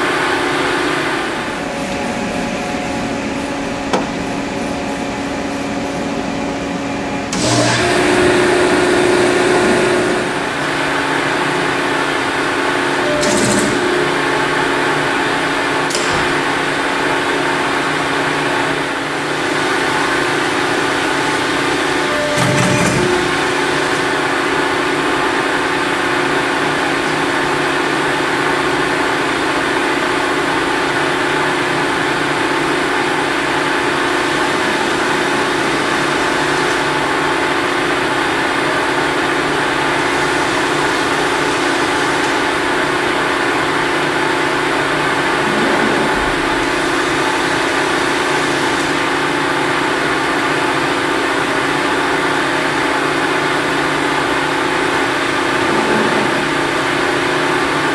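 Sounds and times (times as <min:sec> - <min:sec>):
hydraulic pump humming: 0:00.0 - 0:57.9.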